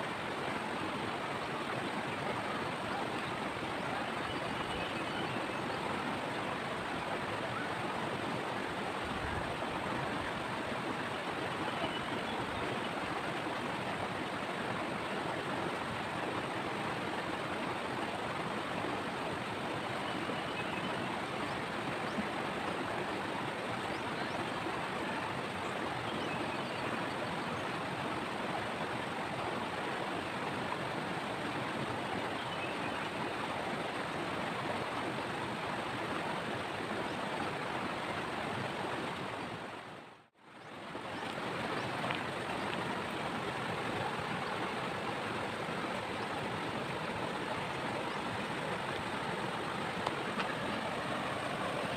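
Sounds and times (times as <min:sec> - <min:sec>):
water rushing over rocks: 0:00.0 - 0:26.1, 0:26.9 - 0:51.9.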